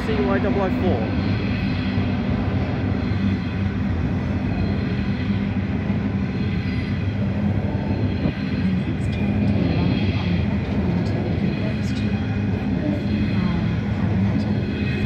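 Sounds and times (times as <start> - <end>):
steady low hum: 0.0 - 15.0
train wheels rumbling on rails: 0.0 - 15.0.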